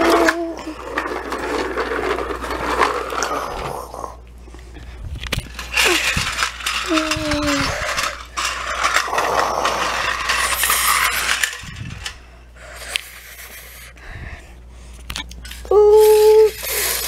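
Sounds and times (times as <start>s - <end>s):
toy trucks rolling on tile: 0.0s - 4.2s, 5.2s - 14.0s, 15.3s - 17.0s.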